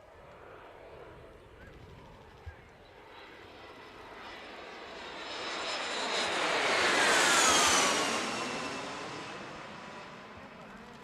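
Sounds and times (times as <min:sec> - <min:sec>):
jet aircraft passing by: 0:00.0 - 0:11.0.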